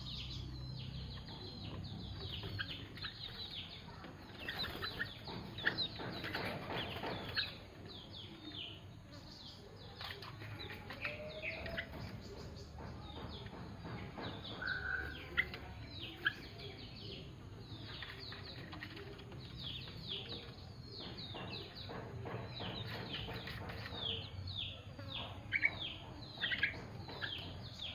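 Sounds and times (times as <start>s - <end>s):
songbirds chirping: 0.0s - 27.9s.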